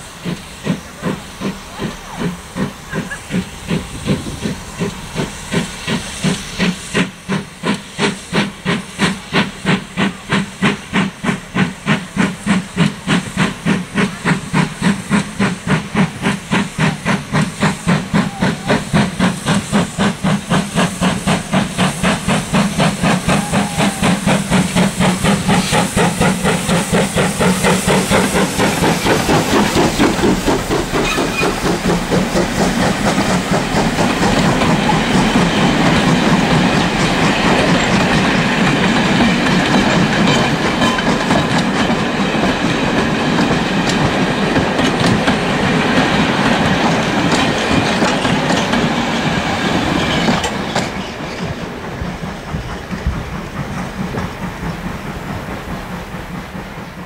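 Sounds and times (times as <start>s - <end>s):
steam locomotive exhaust beating: 0.0s - 57.0s
train rumbling on rails: 0.0s - 57.0s.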